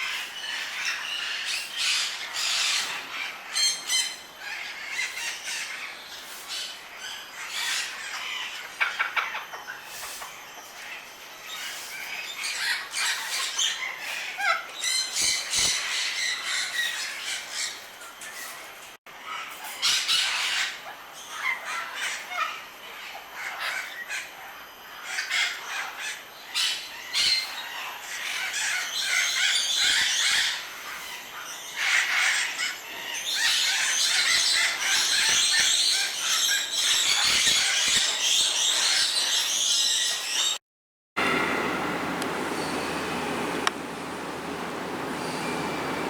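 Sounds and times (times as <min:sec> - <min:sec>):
birds squawking and screeching: 0:00.0 - 0:40.6, 0:41.2 - 0:46.0.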